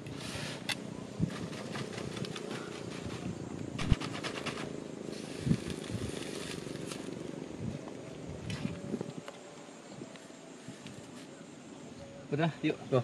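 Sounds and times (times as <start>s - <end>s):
dry thatch rustling and crackling: 0.0s - 11.3s.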